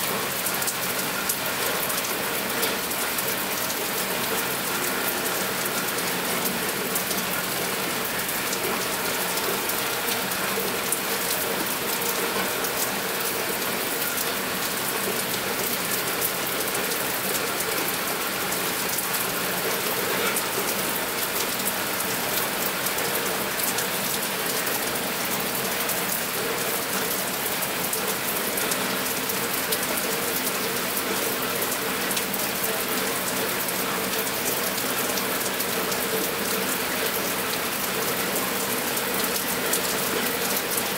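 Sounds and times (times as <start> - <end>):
steady rain on hard surfaces: 0.0 - 40.9.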